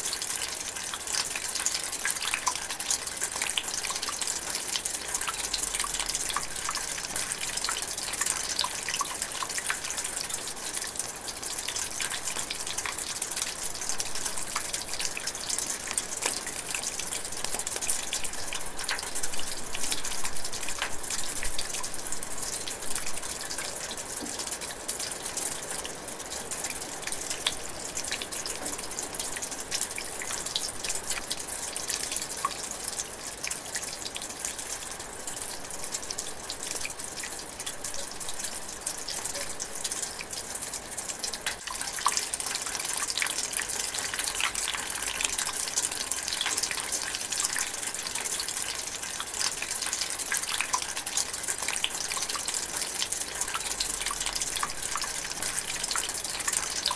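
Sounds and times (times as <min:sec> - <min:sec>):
drizzling rain: 0:00.0 - 0:56.9.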